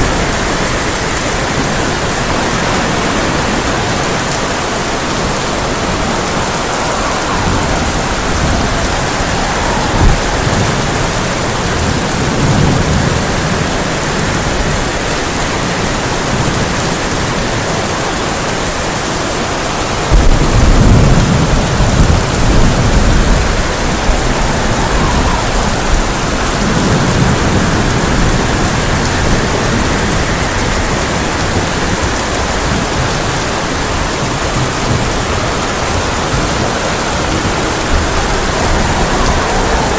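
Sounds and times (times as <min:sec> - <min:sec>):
loud thunderclap: 0:00.0 - 0:18.0, 0:18.7 - 0:39.9
soft thunder rumbles: 0:00.0 - 0:18.0, 0:18.7 - 0:39.9
heavy rain on a tin roof: 0:00.0 - 0:39.9.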